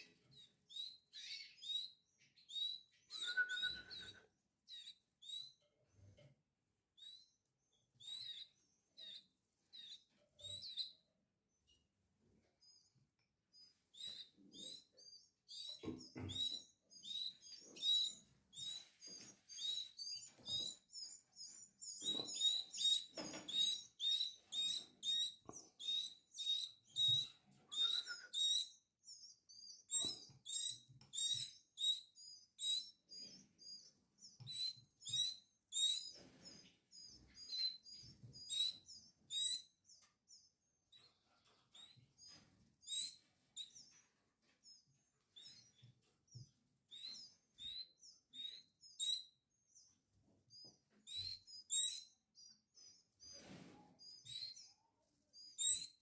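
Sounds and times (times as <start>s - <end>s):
chicks cheeping: 0.0s - 6.2s, 7.0s - 56.0s.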